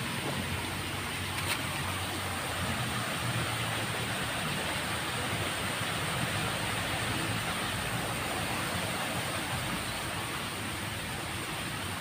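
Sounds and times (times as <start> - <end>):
water flowing in a ditch: 0.0 - 12.0.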